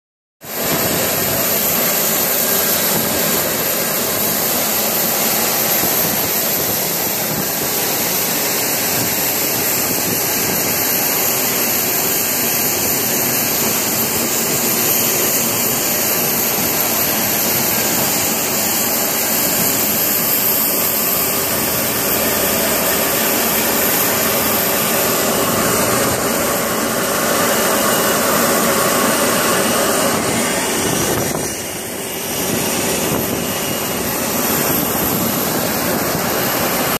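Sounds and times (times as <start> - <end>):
jet engines running: 0.4 - 36.9.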